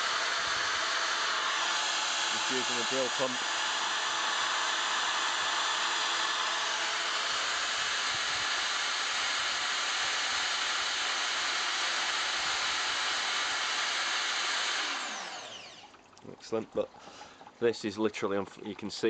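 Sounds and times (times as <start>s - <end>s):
electric drill motor running: 0.0s - 16.0s.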